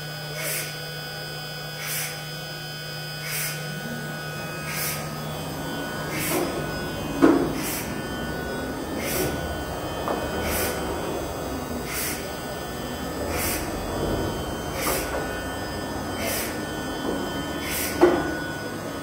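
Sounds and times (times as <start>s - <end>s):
cnc router humming: 0.0s - 19.0s.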